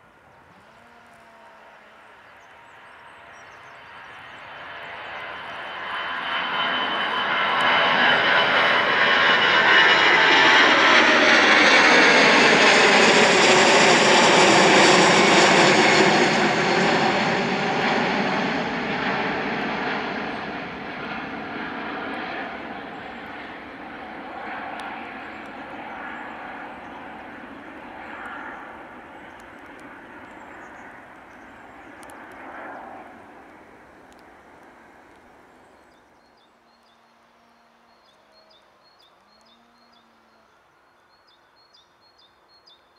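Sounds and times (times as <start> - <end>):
jet airliner passing overhead: 2.0 - 41.8.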